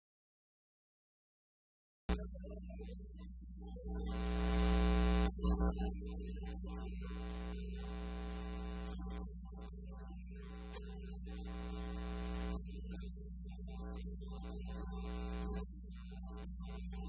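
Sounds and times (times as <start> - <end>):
electrical mains hum: 2.1 - 17.0
harsh electrical buzz: 2.1 - 17.0.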